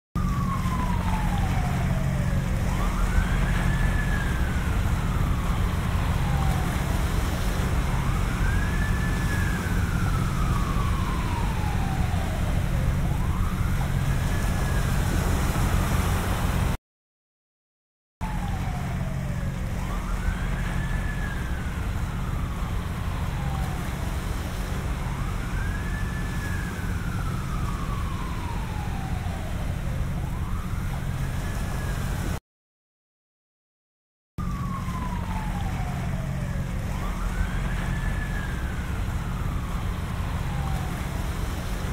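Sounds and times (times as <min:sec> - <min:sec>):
distant ambulance siren wailing: 0:00.2 - 0:16.8, 0:18.2 - 0:32.4, 0:34.4 - 0:41.9
ocean waves rumbling: 0:00.2 - 0:16.8, 0:18.2 - 0:32.4, 0:34.4 - 0:41.9.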